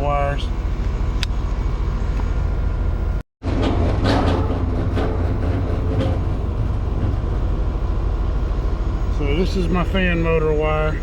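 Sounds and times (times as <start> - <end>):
condenser unit humming with fan: 0.0 - 11.0.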